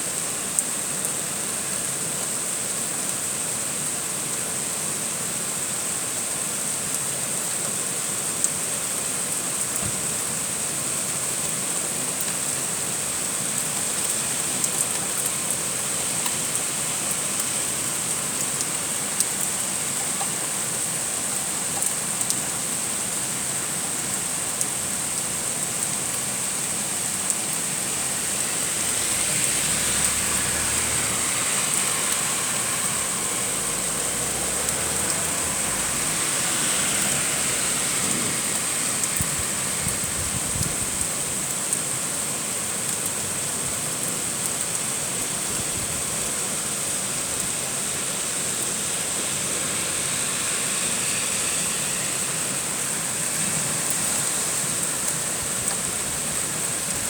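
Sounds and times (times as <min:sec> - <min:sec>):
heavy rain falling: 0:00.0 - 0:57.0
vehicle passing on wet road: 0:06.0 - 0:57.0.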